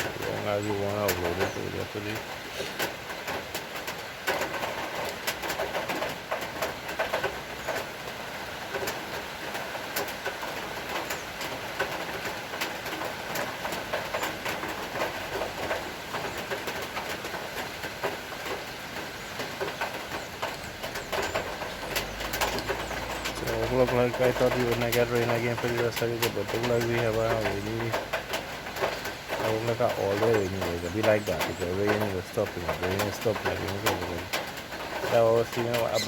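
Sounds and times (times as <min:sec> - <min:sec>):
rain hiss: 0:00.0 - 0:36.0
sharp drips and taps: 0:00.0 - 0:36.0.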